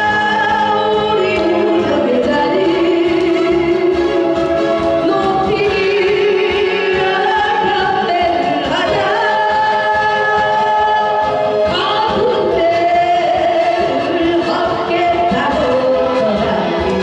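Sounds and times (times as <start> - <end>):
person singing: 0.0 - 17.0
recorded backing track: 0.0 - 17.0.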